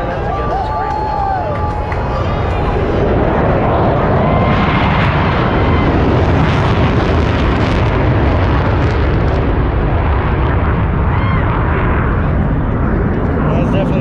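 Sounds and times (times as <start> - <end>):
aircraft engine roaring: 0.0 - 14.0.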